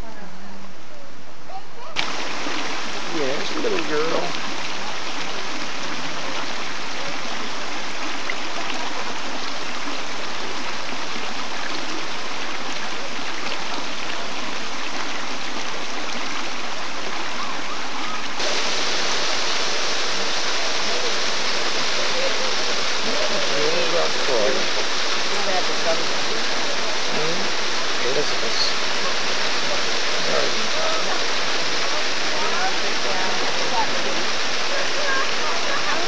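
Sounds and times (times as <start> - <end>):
rush of running water: 1.9 - 36.0.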